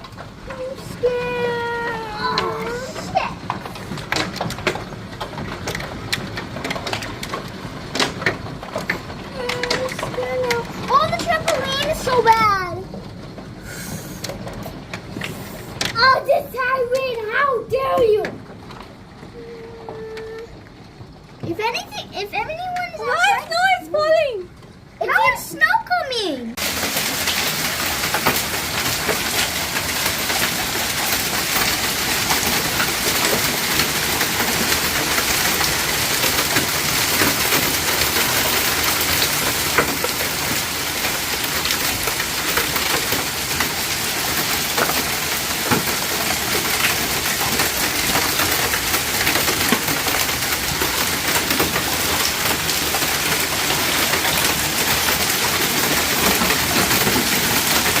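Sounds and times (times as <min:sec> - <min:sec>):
heavy rain pouring: 0:00.0 - 0:58.0
raindrop hits: 0:00.0 - 0:58.0.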